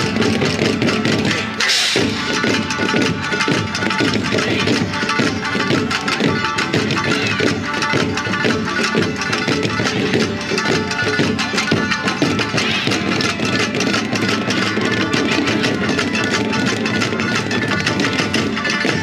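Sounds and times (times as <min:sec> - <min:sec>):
shamisen ensemble playing: 0:00.0 - 0:19.0.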